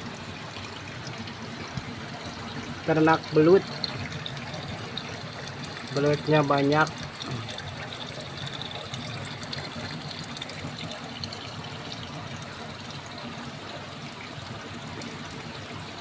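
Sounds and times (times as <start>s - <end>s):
water trickling and flowing: 0.0s - 16.0s.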